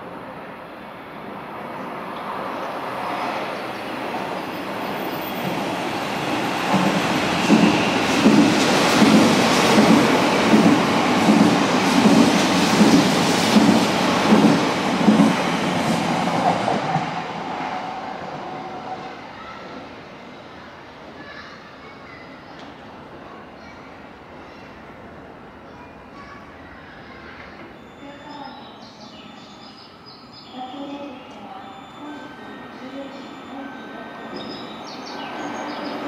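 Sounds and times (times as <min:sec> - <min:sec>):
train passing through station: 0:00.0 - 0:36.0.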